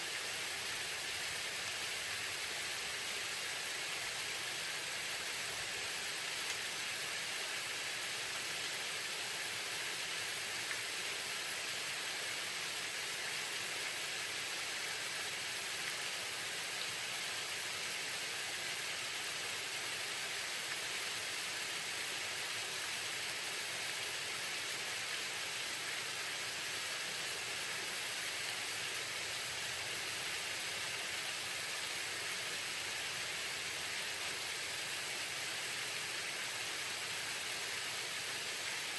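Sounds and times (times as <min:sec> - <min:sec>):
waterfall splashing: 0:00.0 - 0:38.9.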